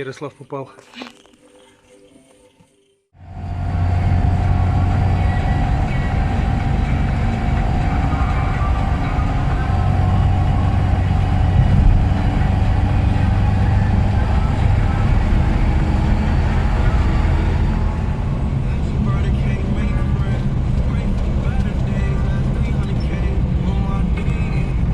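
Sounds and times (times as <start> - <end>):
car engine and tyres droning: 3.2 - 24.9.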